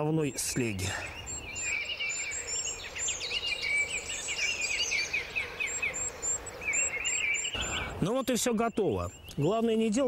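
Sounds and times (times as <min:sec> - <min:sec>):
songbirds chirping trills: 0:00.0 - 0:10.0
steady background hiss: 0:00.0 - 0:10.0.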